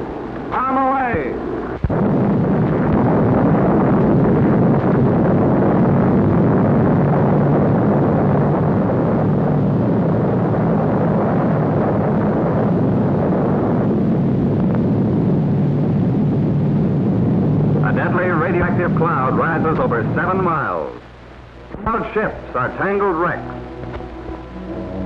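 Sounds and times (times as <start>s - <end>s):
explosion rumbling roar: 0.0s - 21.0s.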